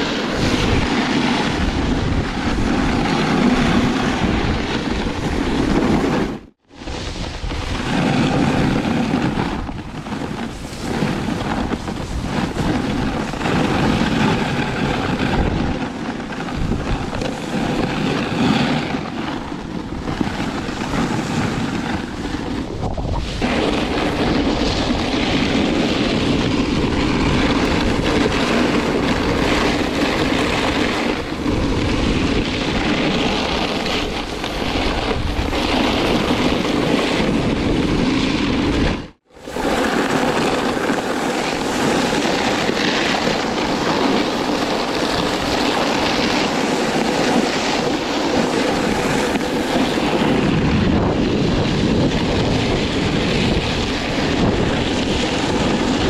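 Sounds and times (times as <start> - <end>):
snowboard scraping over snow: 0.0 - 56.0
wind rushing over microphone: 0.0 - 56.0.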